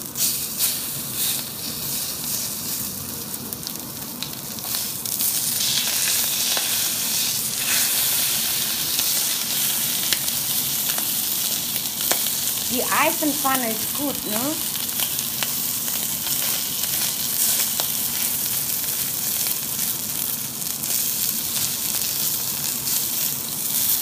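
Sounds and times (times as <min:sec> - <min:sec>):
steak sizzling in hot oil: 0:00.0 - 0:24.0.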